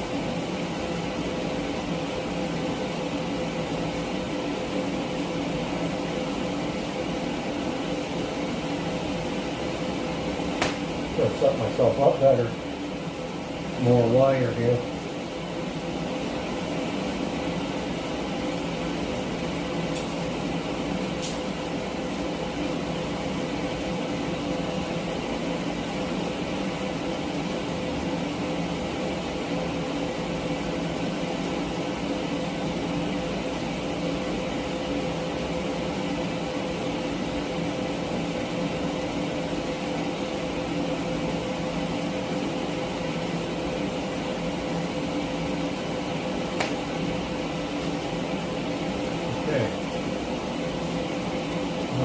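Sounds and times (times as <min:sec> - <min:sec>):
welder hum and hiss: 0:00.0 - 0:52.0.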